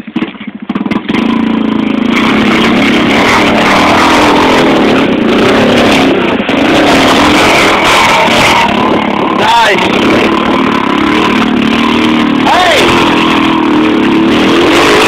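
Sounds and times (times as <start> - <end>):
atv engine revving: 0.0 - 15.0
driving through muddy water: 0.0 - 15.0.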